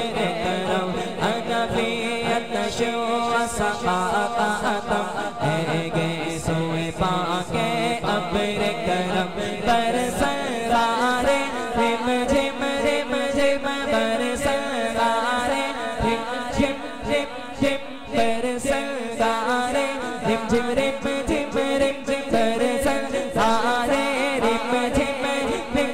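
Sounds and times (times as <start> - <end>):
man singing devotional song: 0.0 - 25.9.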